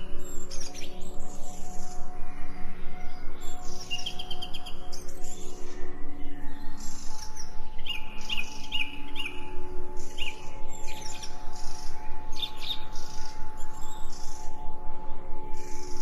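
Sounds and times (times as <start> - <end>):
humming drone: 0.0 - 16.0
songbirds chirping: 0.0 - 16.0.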